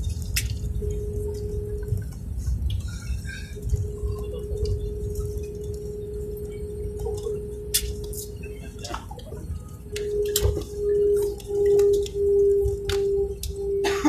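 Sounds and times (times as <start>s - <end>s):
airliner cabin rumble: 0.0s - 14.0s
steady mid-pitched hum: 0.0s - 14.0s.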